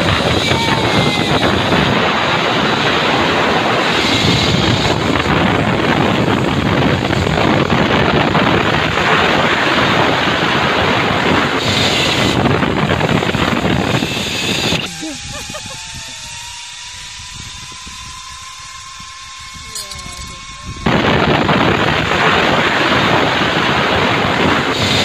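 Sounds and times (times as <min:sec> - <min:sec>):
wind buffeting a microphone: 0:00.0 - 0:25.0.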